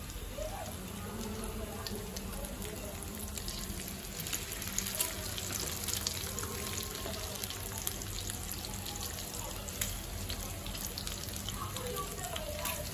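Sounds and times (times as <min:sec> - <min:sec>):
meat sizzling on grill pan: 0:00.0 - 0:12.9.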